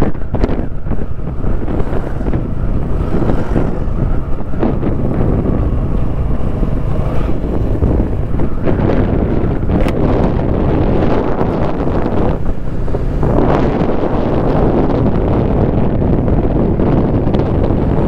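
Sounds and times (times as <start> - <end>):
motorcycle engine and road noise: 0.0 - 18.0
wind rushing over microphone: 0.0 - 18.0.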